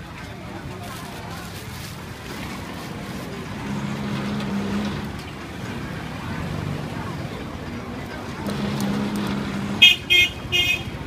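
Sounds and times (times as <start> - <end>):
vehicle engine humming past: 0.7 - 11.0.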